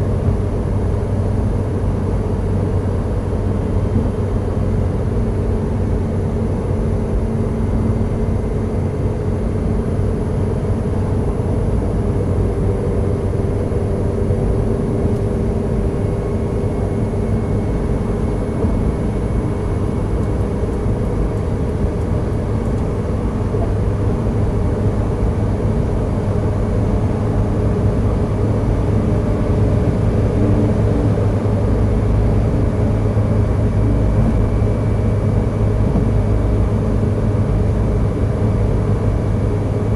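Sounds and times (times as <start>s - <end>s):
car road and engine drone: 0.0s - 39.9s.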